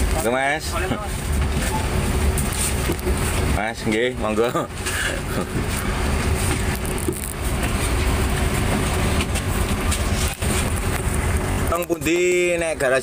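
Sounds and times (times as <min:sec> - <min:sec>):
vehicle engine rumble from inside: 0:00.0 - 0:13.0.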